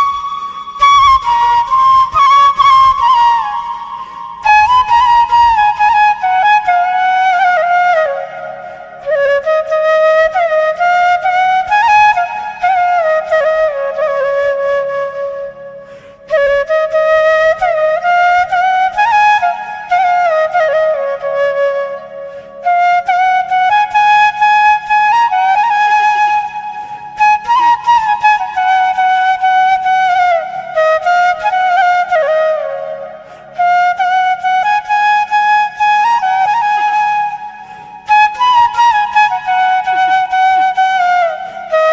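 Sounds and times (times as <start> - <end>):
sliding sustained melody: 0.0 - 41.9.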